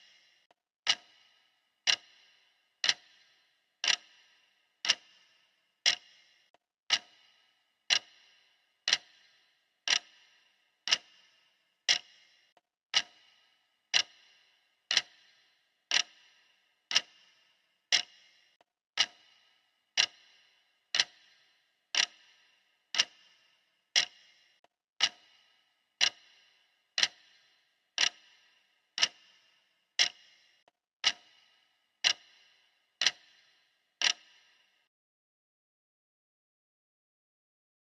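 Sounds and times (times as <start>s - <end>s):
clock ticking: 0.0s - 34.8s.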